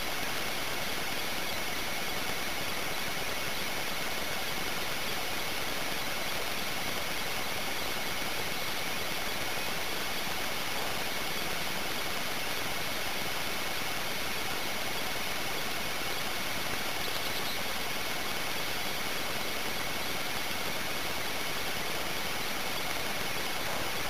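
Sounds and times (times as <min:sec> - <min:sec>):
faint high whine: 0:00.0 - 0:24.0
microphone hiss: 0:00.0 - 0:24.0.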